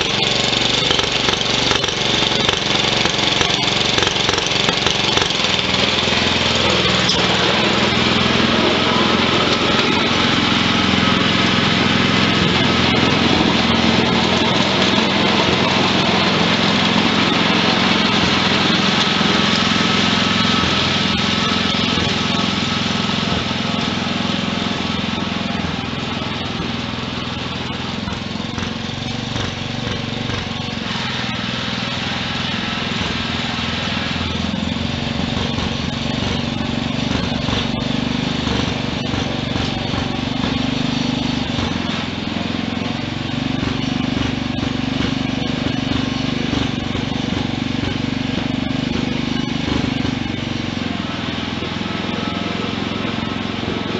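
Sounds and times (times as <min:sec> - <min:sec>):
garden tractor engine running: 0:00.0 - 0:53.9.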